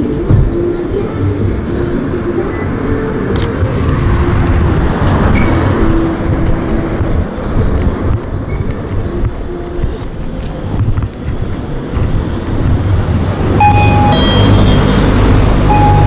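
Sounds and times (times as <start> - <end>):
low rumble of city street: 0.0 - 16.0.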